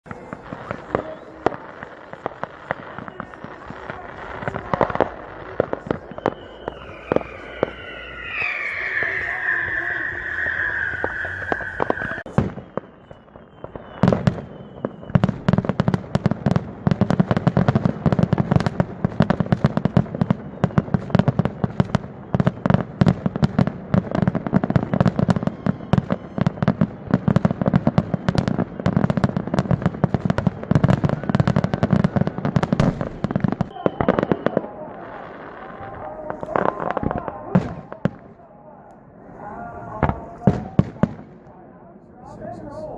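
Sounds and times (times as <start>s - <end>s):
string of firecrackers cracking: 0.0s - 38.4s.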